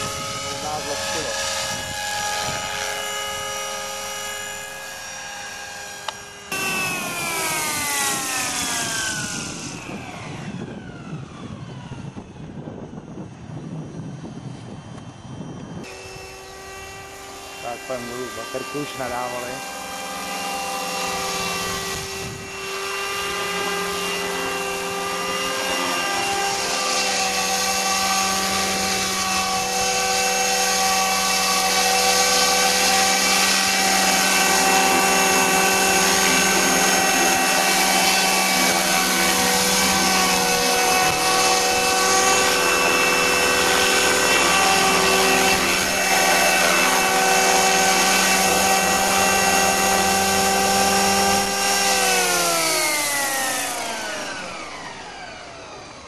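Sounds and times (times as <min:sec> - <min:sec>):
rotor noise: 0:00.0 - 0:11.6, 0:15.7 - 0:55.5
model helicopter motor whine: 0:00.0 - 0:56.0.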